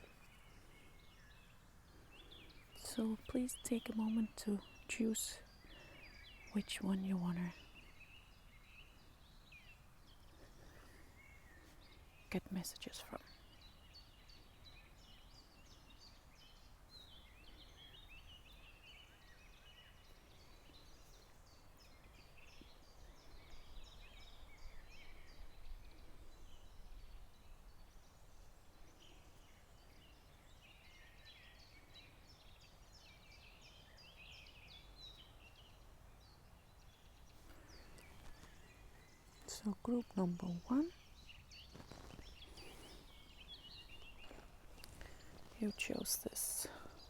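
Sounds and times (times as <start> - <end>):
small birds chirping and trilling: 0.0 - 47.0.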